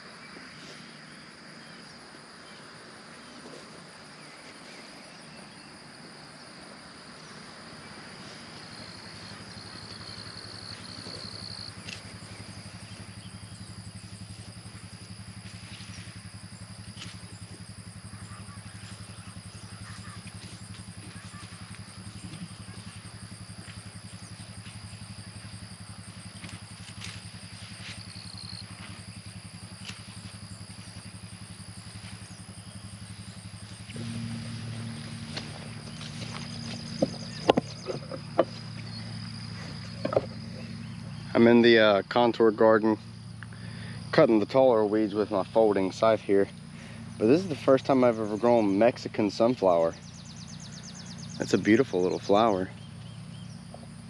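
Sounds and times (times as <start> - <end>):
engine running steadily: 0.0 - 54.0
high insect drone: 0.0 - 54.0
short insect chirps: 0.0 - 54.0.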